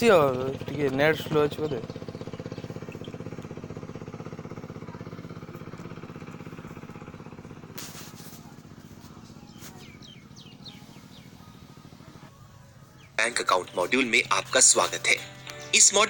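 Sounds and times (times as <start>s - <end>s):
engine running with pulsing: 0.0s - 15.9s.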